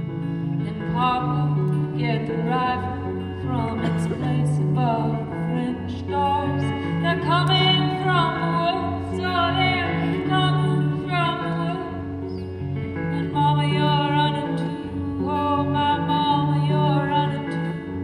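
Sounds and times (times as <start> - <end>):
acoustic guitar: 0.0 - 18.0
woman singing: 0.6 - 12.4, 13.0 - 18.0.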